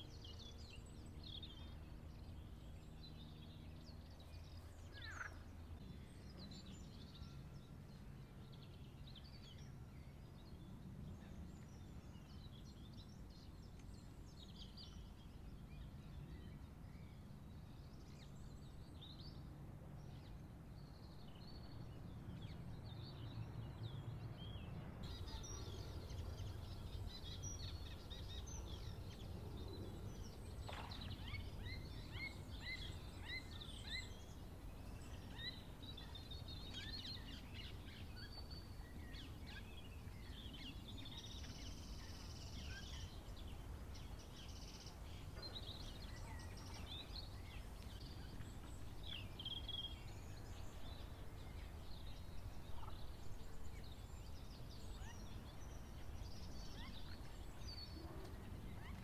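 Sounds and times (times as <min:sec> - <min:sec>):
low wind rumble: 0:00.0 - 0:59.0.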